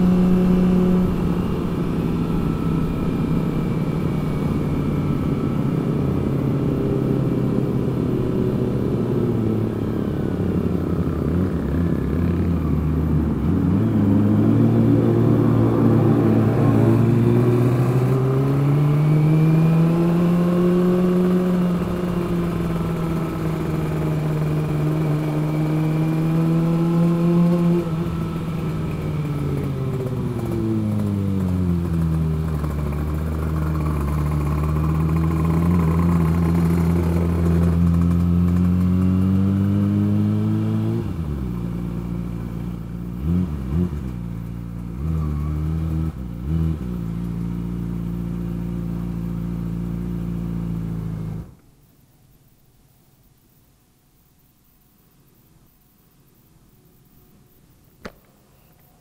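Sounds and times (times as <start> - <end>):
motorcycle engine: 0.0 - 51.6.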